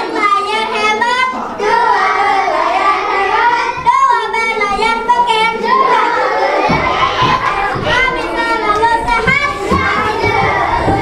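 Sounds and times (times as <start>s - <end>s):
child singing: 0.0s - 11.0s.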